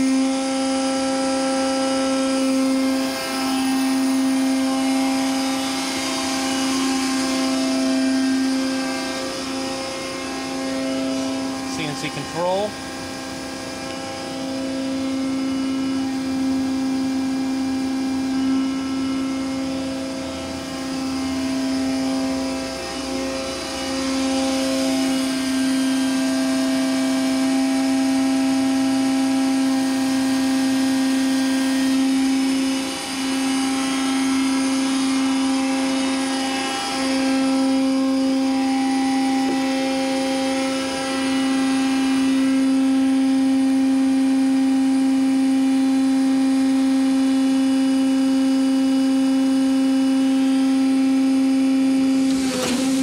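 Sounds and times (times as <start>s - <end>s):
hydraulic power unit whine: 0.0s - 53.0s.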